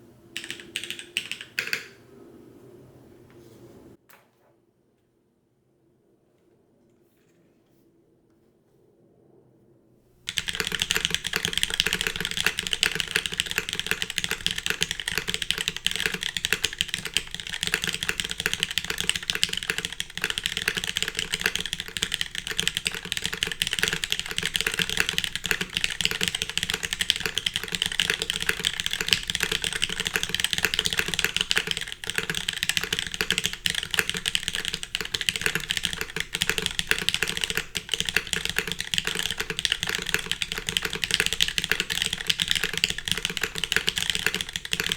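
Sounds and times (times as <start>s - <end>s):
mechanical keyboard key clacks: 0.4s - 2.0s, 10.3s - 44.9s.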